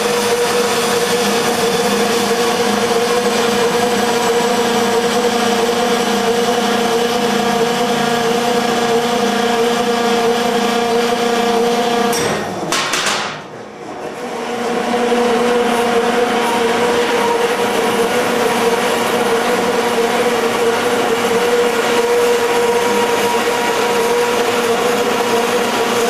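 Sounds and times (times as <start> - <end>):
band saw cutting metal: 0.0 - 12.3, 14.2 - 26.0.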